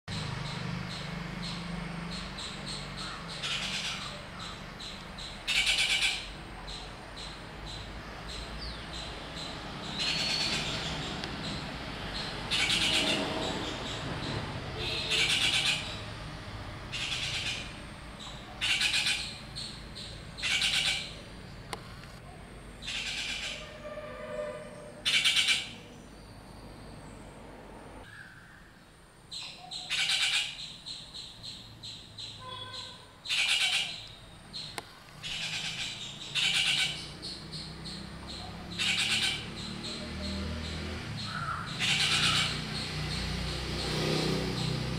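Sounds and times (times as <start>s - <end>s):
birds making harsh calls: 0.1s - 16.2s, 16.8s - 21.3s, 22.8s - 26.4s, 29.3s - 44.9s.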